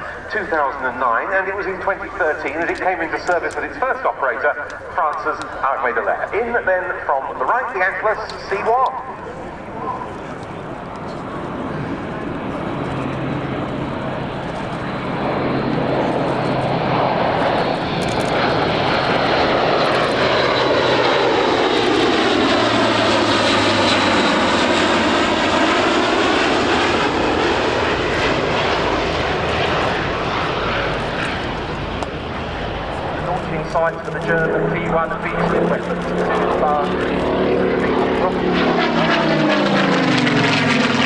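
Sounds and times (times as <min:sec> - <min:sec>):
turboprop aircraft flypast: 0:00.0 - 0:41.0.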